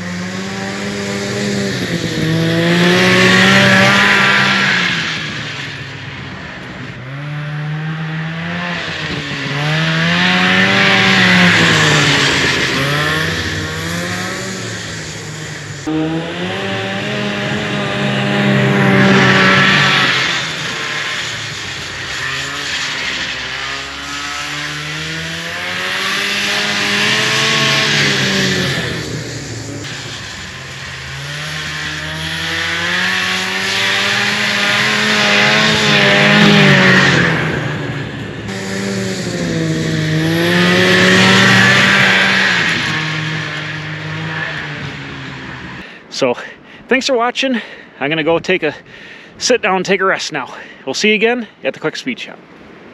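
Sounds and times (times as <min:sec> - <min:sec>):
snowmobile engine revving: 0:00.0 - 0:52.4.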